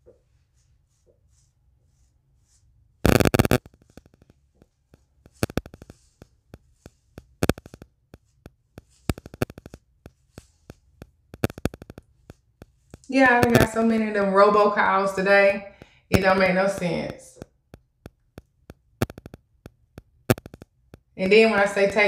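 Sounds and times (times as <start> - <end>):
comb clicks and hair rustles: 0.0 - 14.9, 15.7 - 22.0
hair crackling: 0.0 - 22.0.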